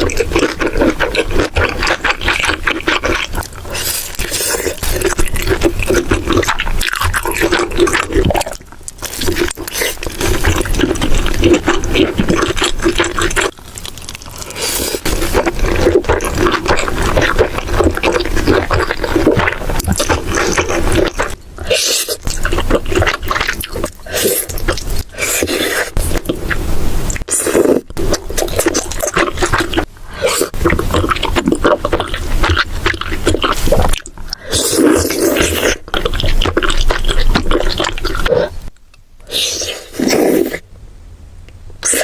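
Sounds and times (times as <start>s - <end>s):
person chewing food: 0.0s - 40.6s.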